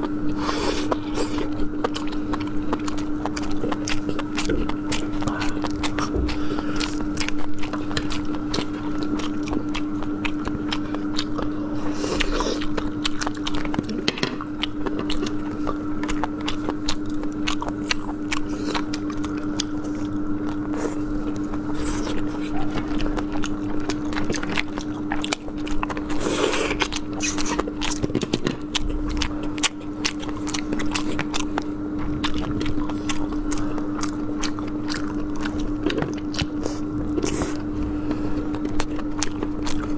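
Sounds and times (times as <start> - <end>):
slurping and chewing: 0.0 - 39.9
steady hum: 0.0 - 39.9.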